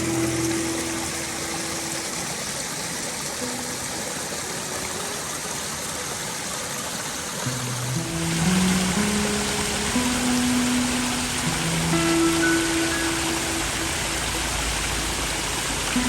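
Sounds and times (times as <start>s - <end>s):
water spilling over rock: 0.0s - 16.0s.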